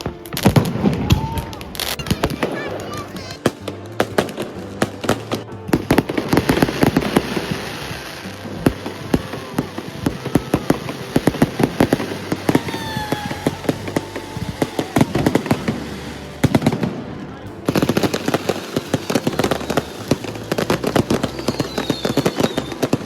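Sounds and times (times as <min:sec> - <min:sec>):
fireworks bangs and crackles: 0:00.0 - 0:23.0
falling firework whistle: 0:00.4 - 0:02.6, 0:06.3 - 0:23.0.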